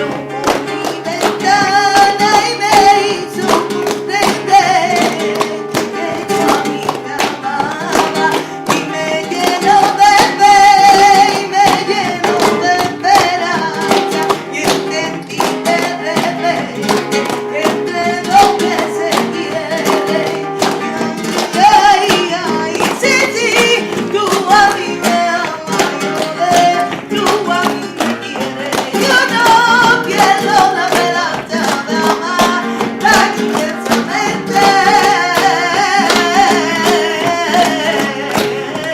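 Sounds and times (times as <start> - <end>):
acoustic guitar: 0.0 - 38.9
person singing: 0.0 - 38.9.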